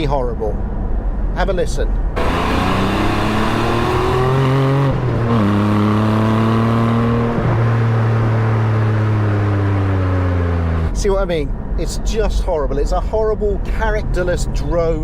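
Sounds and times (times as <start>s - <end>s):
car engine droning: 0.5s - 15.0s.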